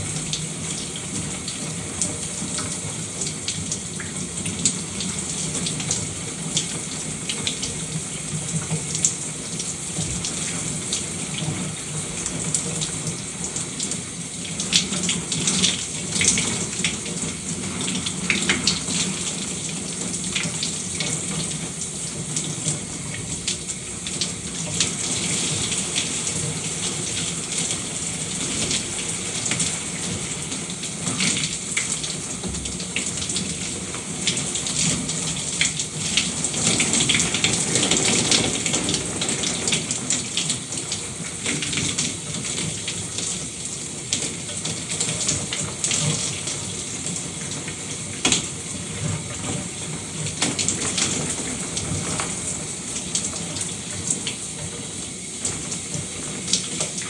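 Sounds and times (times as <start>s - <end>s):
shower water spraying: 0.0s - 57.0s.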